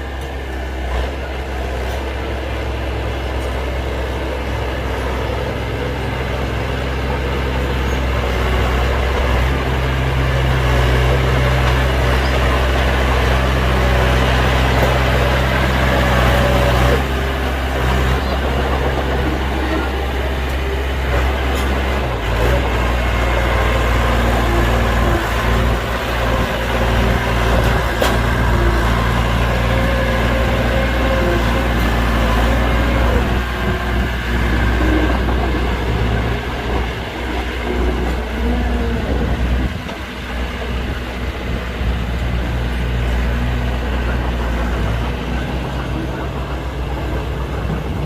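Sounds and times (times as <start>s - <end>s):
diesel construction machinery running: 0.0s - 48.0s.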